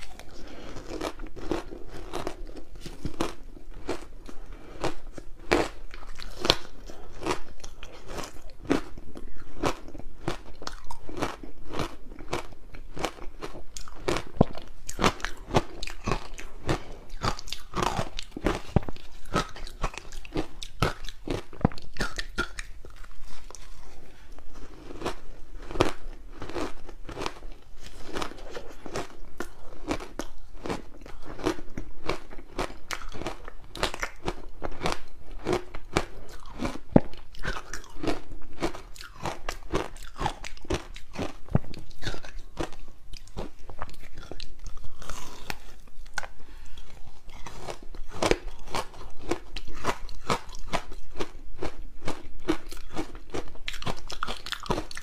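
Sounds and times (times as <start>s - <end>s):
crisp crunching and chewing: 0.0s - 55.0s.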